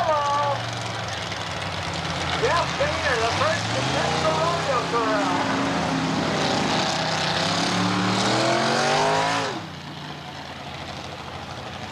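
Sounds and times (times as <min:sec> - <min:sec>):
monster truck engines revving: 0:00.0 - 0:11.9.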